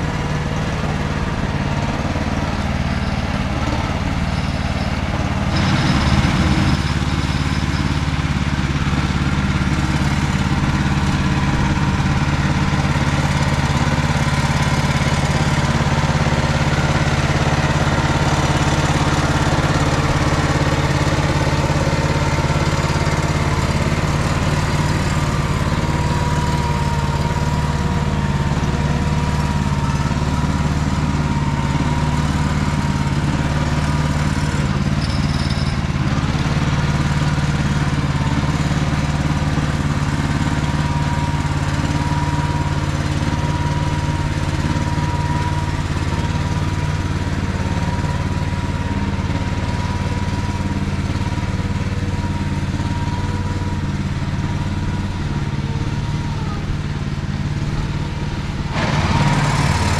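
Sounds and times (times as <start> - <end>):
tractor engine running under load: 0.0 - 59.9.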